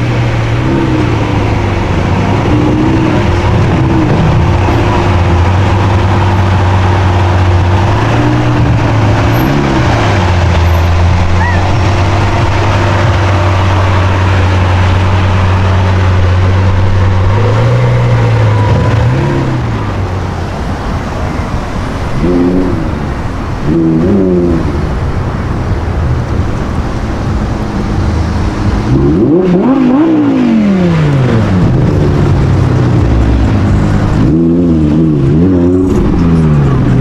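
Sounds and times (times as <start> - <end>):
sports car engine revving: 0.0 - 37.0.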